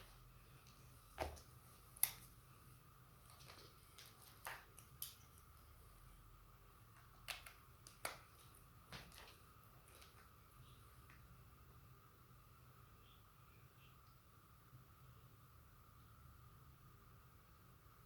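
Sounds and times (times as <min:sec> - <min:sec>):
faint high hum: 0:00.0 - 0:18.0.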